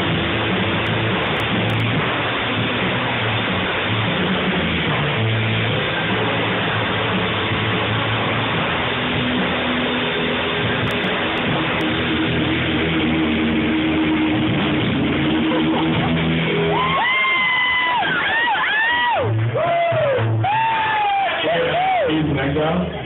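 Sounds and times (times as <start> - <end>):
bass guitar: 0.0 - 23.0
dense noisy wash: 0.0 - 23.0
distorted electric guitar: 0.0 - 23.0.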